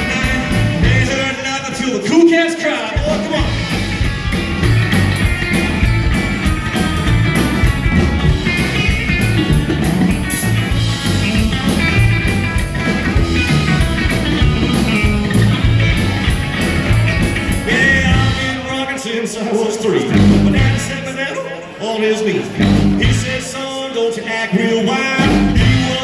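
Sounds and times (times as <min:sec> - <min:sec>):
electric guitar: 0:00.0 - 0:02.1, 0:03.0 - 0:19.1, 0:22.5 - 0:23.7, 0:24.5 - 0:26.0
rockabilly band playing: 0:00.0 - 0:26.0.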